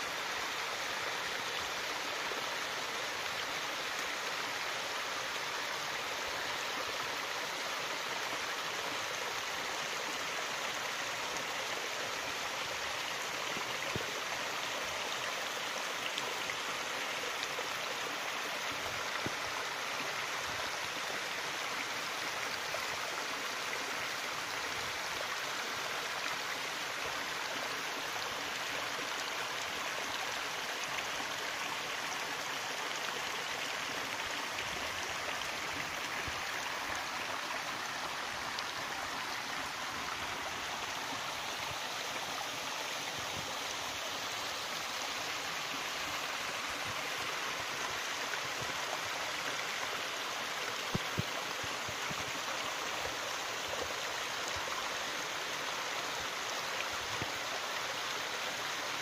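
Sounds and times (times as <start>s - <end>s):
stream running over stones: 0.0s - 59.0s.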